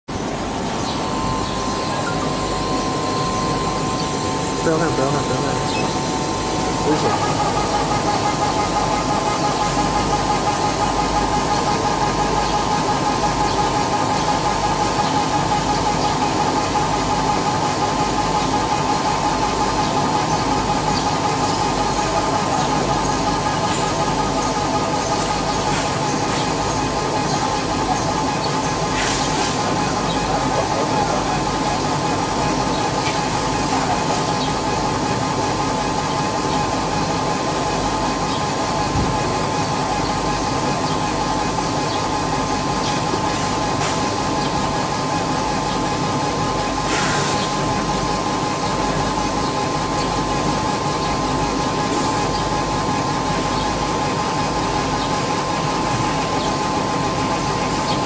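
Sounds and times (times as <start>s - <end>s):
laser engraver humming and whining: 0.1s - 58.0s.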